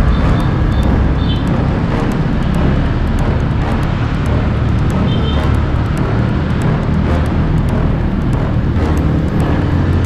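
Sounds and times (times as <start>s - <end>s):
motorcycle engine and road noise: 0.0s - 10.0s.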